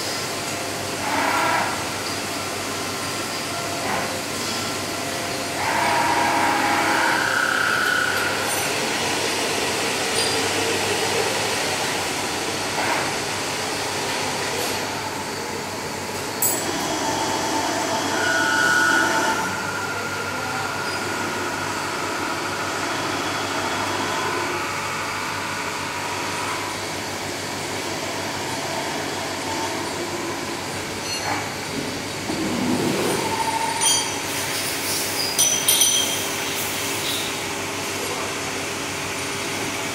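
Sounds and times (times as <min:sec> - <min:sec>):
lathe running and cutting: 0:00.0 - 0:39.9.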